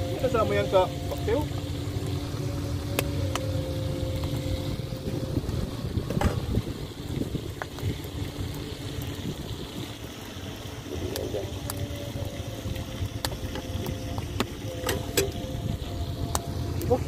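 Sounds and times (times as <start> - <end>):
wind buffeting microphone: 1.5 - 17.0.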